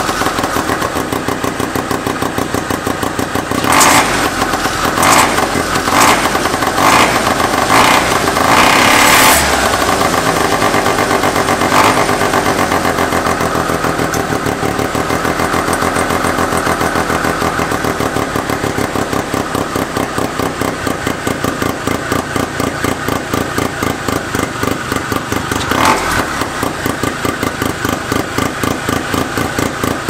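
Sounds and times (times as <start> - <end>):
rotary engine running: 0.0 - 29.9.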